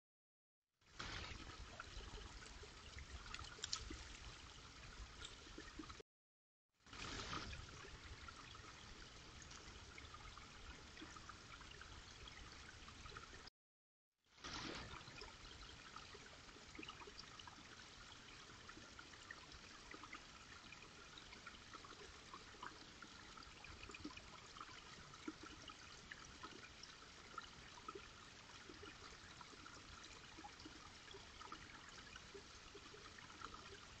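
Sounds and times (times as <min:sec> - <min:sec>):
water drips and gurgles: 0:00.8 - 0:06.0, 0:06.8 - 0:13.5, 0:14.2 - 0:34.0
water trickling: 0:00.9 - 0:06.0, 0:06.9 - 0:13.5, 0:14.4 - 0:34.0.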